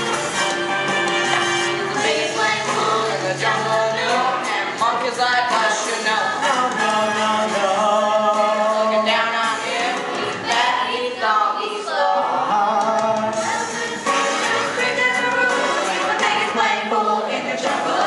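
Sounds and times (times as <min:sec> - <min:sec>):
group singing in chorus: 0:01.0 - 0:18.0.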